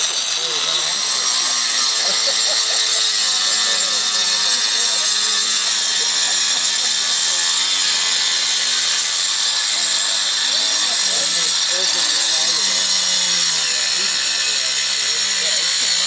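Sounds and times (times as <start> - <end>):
power tool grinding stone: 0.0 - 16.0.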